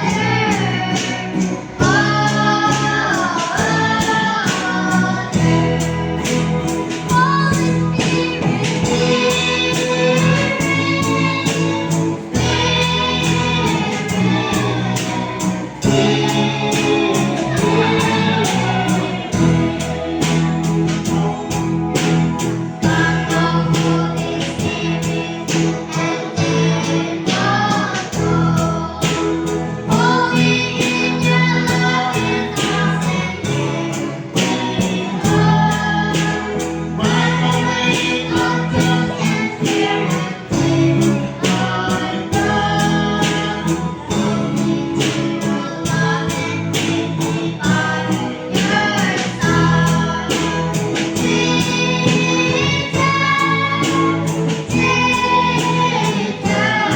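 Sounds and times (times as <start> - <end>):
person singing worship song: 0.0 - 21.2, 22.7 - 56.9
guitar: 0.0 - 56.9.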